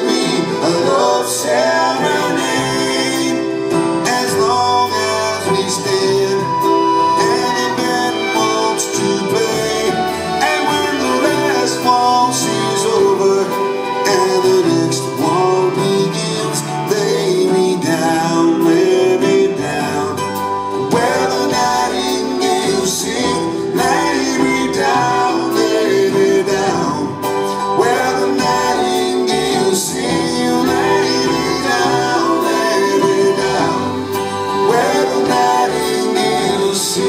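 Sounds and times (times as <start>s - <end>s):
guitar: 0.0s - 37.0s
live band playing country waltz: 0.0s - 37.0s.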